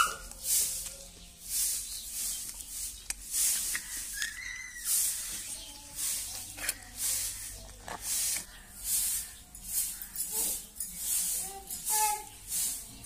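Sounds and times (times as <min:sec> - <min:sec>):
broom sweeping concrete floor: 0:00.0 - 0:13.0.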